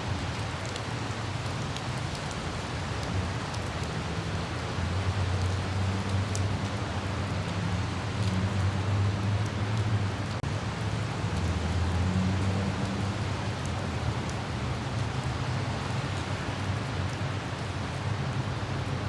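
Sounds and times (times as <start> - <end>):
light rain hiss: 0.0 - 19.0.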